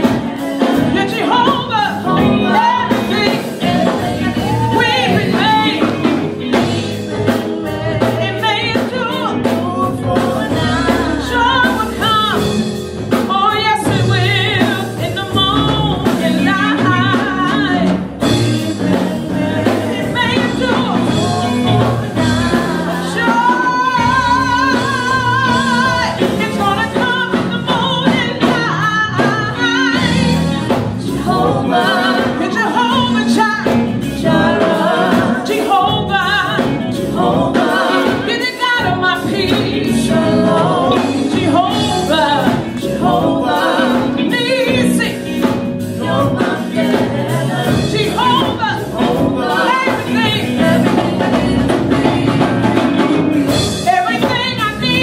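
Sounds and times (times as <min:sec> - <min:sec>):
band with drums and electric guitar: 0:00.0 - 0:55.0
singers in harmony: 0:00.0 - 0:55.0.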